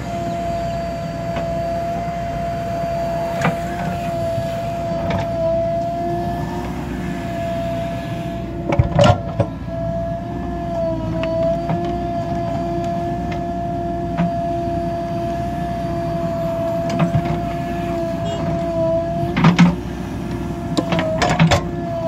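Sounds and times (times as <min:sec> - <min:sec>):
backhoe digging soil: 0:00.0 - 0:22.0
diesel engine running under load: 0:00.0 - 0:22.0.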